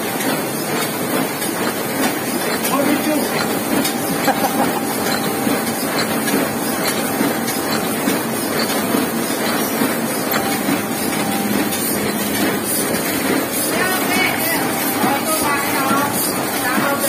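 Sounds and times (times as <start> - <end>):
printing press clatter: 0.0 - 17.0.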